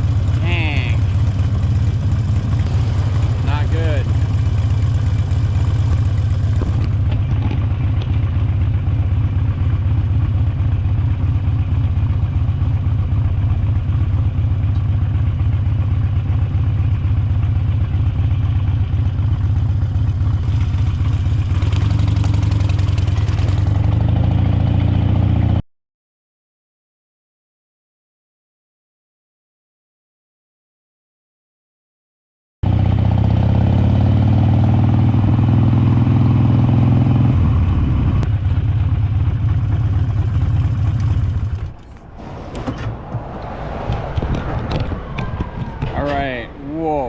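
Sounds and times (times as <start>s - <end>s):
motorcycle engine droning: 0.0s - 25.6s, 32.6s - 47.0s.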